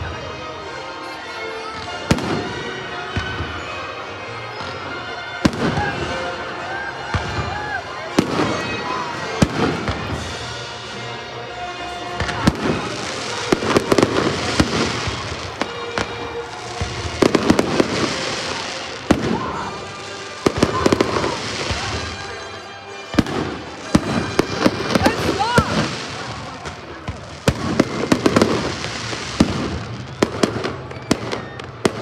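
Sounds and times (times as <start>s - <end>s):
firework crackle: 1.5s - 3.7s, 4.4s - 11.0s, 11.9s - 32.0s.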